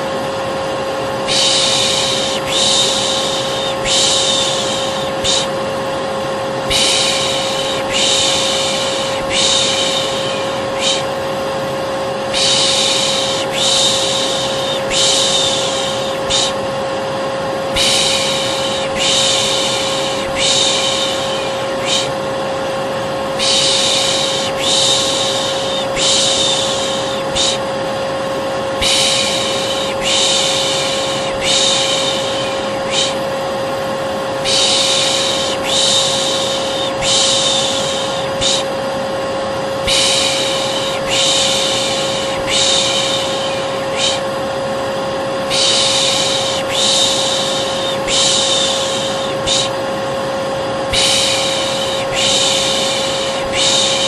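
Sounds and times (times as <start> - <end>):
hair dryer whining: 0.0 - 54.0
person shushing: 1.2 - 5.6, 6.6 - 11.2, 12.2 - 16.7, 17.7 - 22.3, 23.3 - 27.7, 28.8 - 33.4, 34.4 - 38.8, 39.8 - 44.5, 45.4 - 49.9, 50.9 - 54.0.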